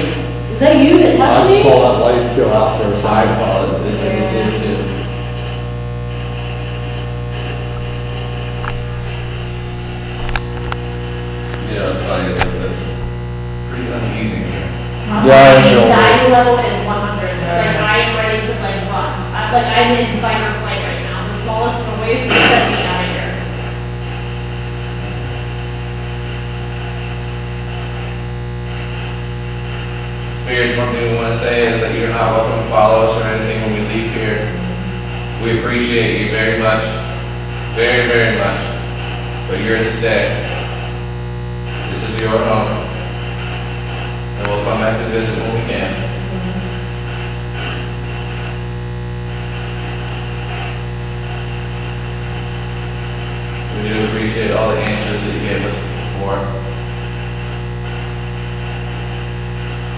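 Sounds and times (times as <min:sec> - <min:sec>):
constant hiss: 0:00.0 - 0:48.7
electrical hum: 0:00.0 - 0:59.9.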